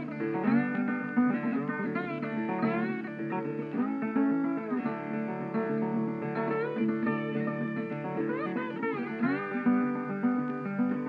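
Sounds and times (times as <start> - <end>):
plucked guitar notes: 0.0 - 11.0.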